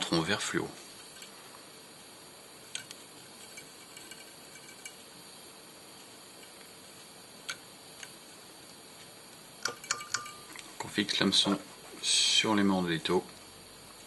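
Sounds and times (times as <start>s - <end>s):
low steady hiss: 0.0s - 14.0s.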